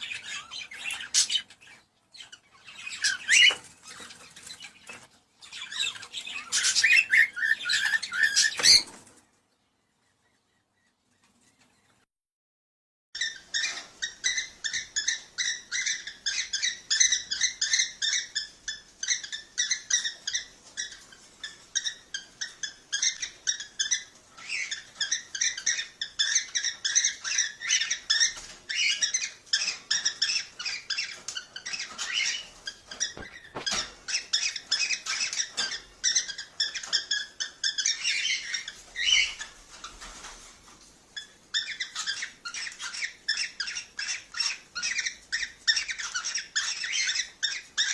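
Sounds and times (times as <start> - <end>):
cockatiels chattering and chirping: 0.0 - 9.1, 13.2 - 47.9.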